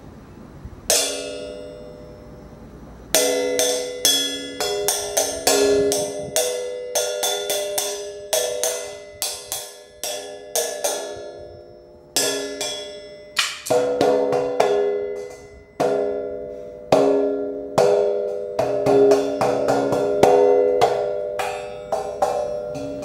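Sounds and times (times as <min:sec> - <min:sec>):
cymbal strikes ringing: 0:00.9 - 0:23.0.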